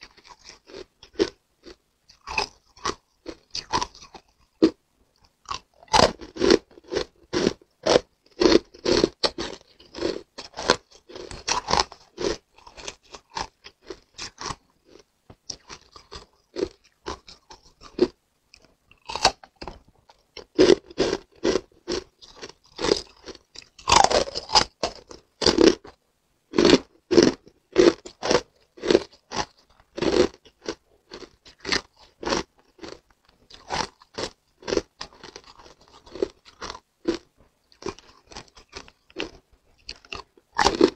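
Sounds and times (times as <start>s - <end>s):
ice crunching being chewed: 0.0s - 40.9s.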